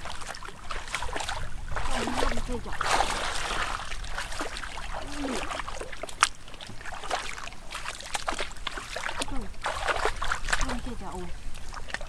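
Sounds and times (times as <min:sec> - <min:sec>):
water pouring from bucket: 0:00.0 - 0:12.0
water sloshing and splashing: 0:00.0 - 0:12.0.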